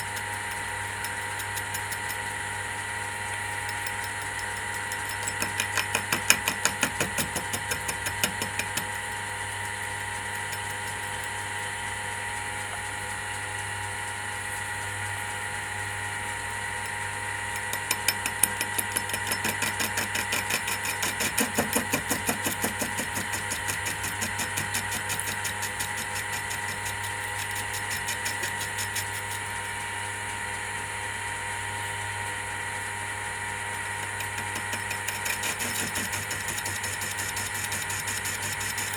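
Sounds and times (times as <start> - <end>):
lathe motor hum and whine: 0.0 - 38.9.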